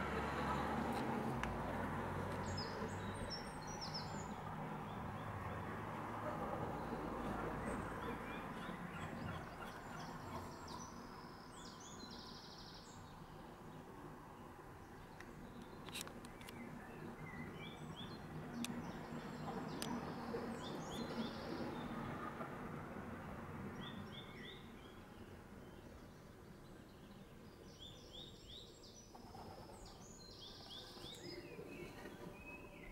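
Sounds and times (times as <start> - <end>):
small birds chirping: 0.0 - 5.8, 6.6 - 22.0, 23.8 - 32.9
outdoor background noise: 0.0 - 32.9.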